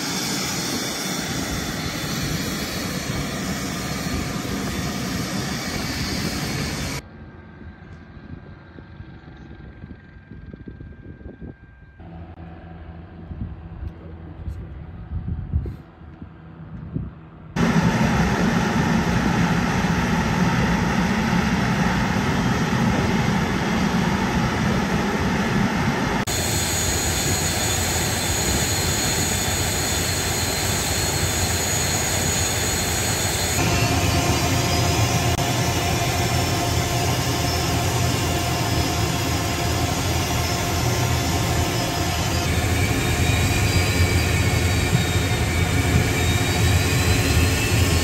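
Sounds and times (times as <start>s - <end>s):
jet engines whining: 0.0s - 13.6s, 17.6s - 48.0s.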